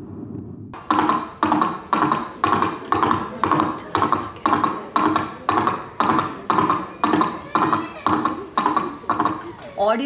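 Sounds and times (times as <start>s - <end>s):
galloping horse hoofbeats: 0.8s - 9.5s.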